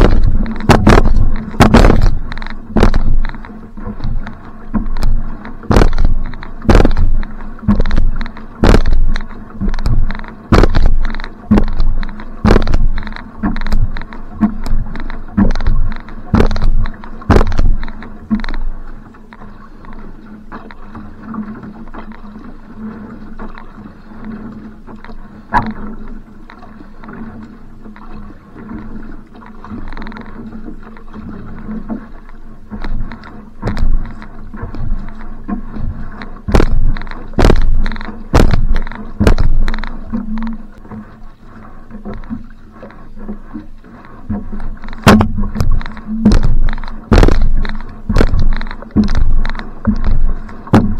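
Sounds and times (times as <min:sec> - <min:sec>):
paddle strokes in water: 0:00.0 - 0:50.9
water washing along hull: 0:00.0 - 0:50.9.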